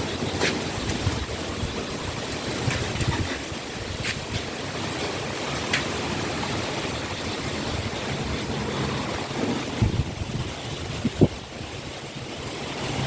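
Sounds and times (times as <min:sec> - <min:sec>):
heavy rain in strong wind: 0:00.0 - 0:13.0.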